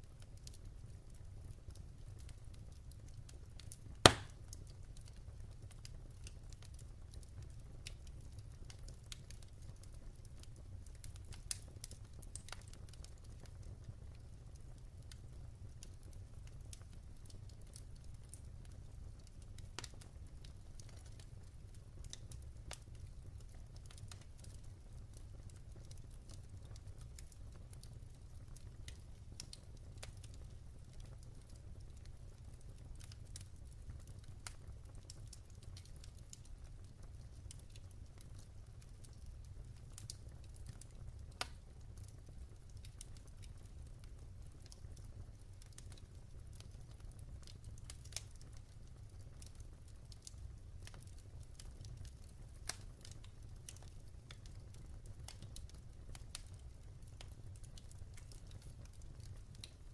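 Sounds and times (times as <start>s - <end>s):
firewood crackling and popping: 0.0s - 59.9s
low fire rumble: 0.0s - 59.9s.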